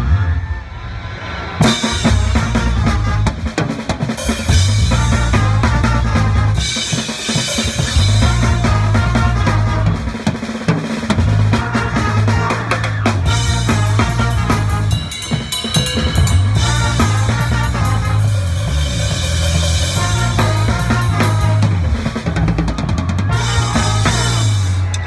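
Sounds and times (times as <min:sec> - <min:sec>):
brass bass line: 0:00.0 - 0:25.0
drum kit beat: 0:01.6 - 0:25.0.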